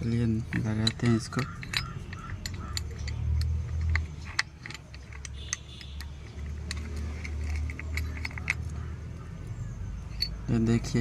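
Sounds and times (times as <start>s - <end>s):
metal tools clinking: 0.0s - 9.2s, 10.0s - 11.0s.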